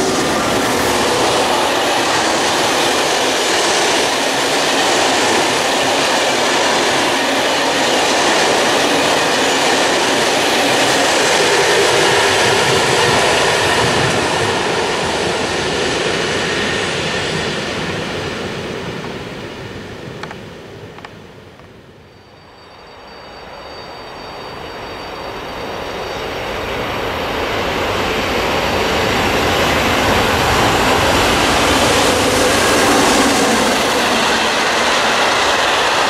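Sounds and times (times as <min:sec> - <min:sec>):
train wheels rushing on rails: 0:00.0 - 0:36.0.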